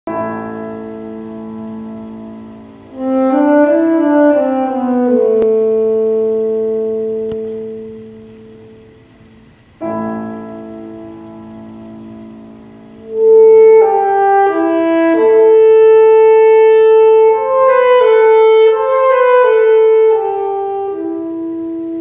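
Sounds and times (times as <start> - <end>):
alto saxophone: 0.1 - 9.1, 9.8 - 22.0
piano: 0.1 - 22.0.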